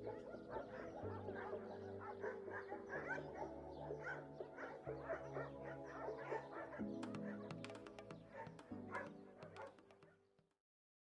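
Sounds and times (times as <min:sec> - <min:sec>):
faint dog barks and yips: 0:00.0 - 0:09.8
soft background music: 0:00.0 - 0:10.4.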